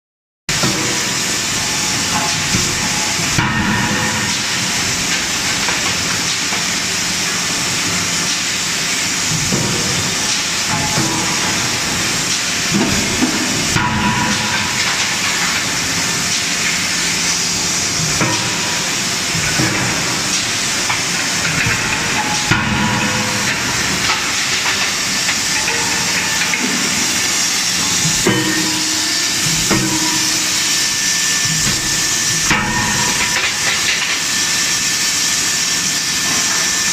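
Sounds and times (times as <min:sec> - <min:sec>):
loud steady hiss: 0:00.5 - 0:36.9.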